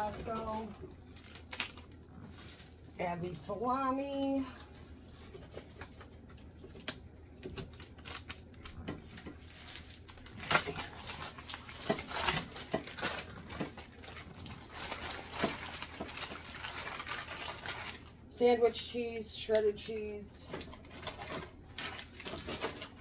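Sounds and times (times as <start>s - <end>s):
plastic packaging crinkling: 0.0s - 18.6s, 19.5s - 23.0s.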